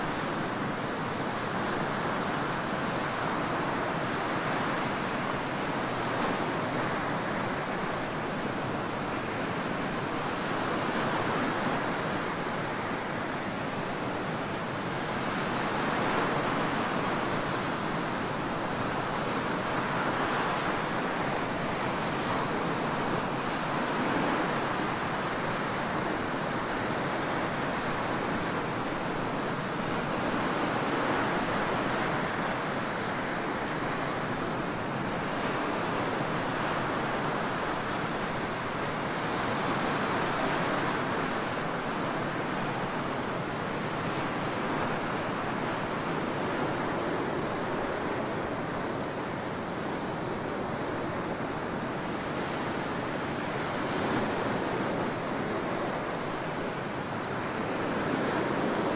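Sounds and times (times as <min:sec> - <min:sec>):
waves breaking on beach: 0:00.0 - 0:58.9.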